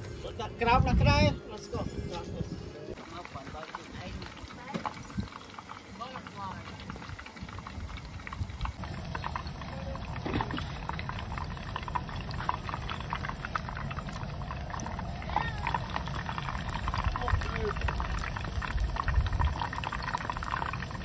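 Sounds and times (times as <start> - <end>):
oil sizzling and crackling: 3.0 - 21.0.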